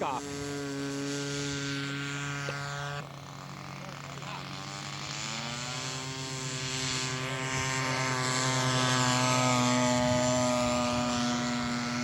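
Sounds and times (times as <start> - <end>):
model aircraft engine running: 0.0 - 12.0.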